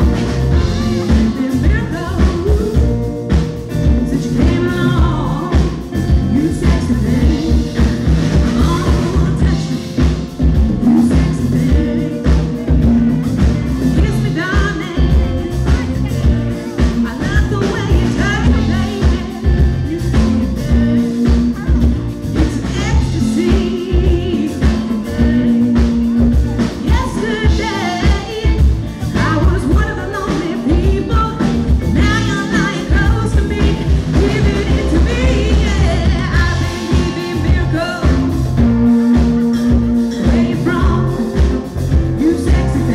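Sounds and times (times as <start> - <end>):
live rock band: 0.0 - 42.9
woman singing lead vocals: 0.0 - 42.9.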